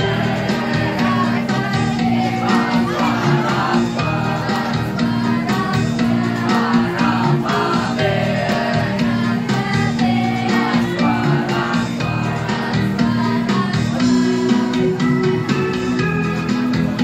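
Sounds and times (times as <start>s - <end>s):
children's choir singing: 0.0s - 14.9s
instrumental accompaniment: 0.0s - 17.0s.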